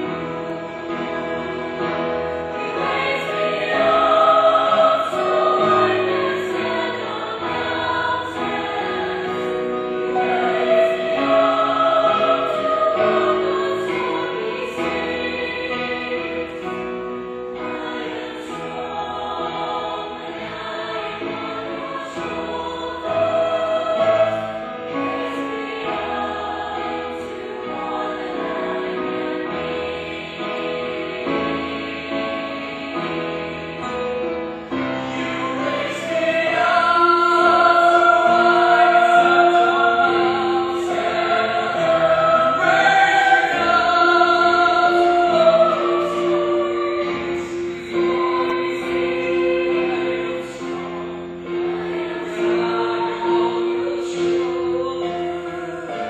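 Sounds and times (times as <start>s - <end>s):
choir singing slow song: 0.0s - 56.0s
musical accompaniment: 0.0s - 56.0s.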